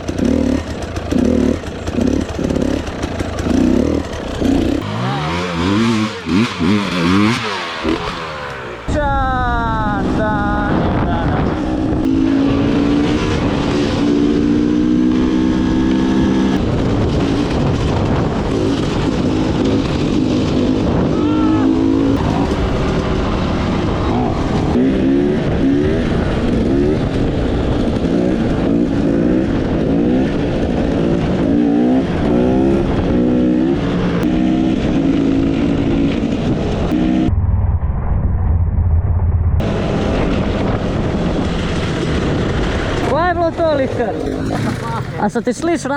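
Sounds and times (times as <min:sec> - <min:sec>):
dirt bike engine revving: 0:00.0 - 0:37.3, 0:39.6 - 0:45.9
rush of wind or rain: 0:07.2 - 0:45.0.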